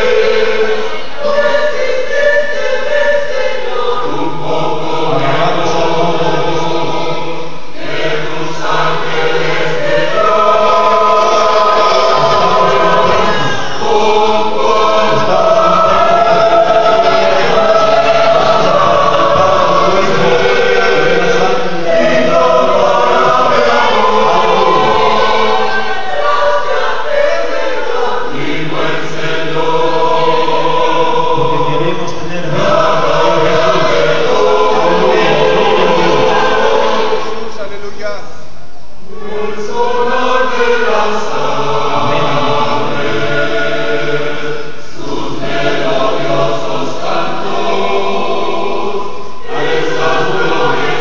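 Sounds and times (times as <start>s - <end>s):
mixed choir singing a hymn: 0.0s - 38.1s, 39.0s - 51.0s.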